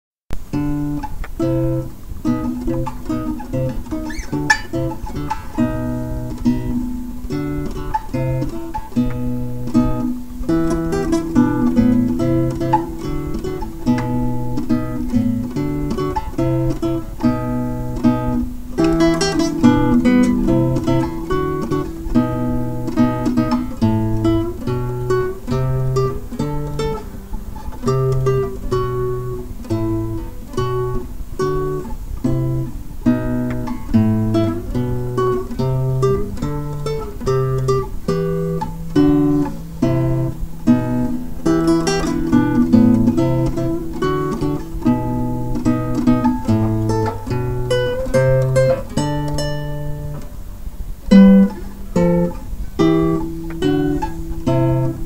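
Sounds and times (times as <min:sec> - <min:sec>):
acoustic guitar melody: 0:00.3 - 0:55.0.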